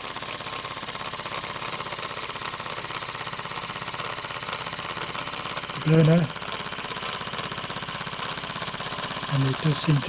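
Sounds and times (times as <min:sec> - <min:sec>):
toy steam engine chuffing: 0:00.0 - 0:10.0.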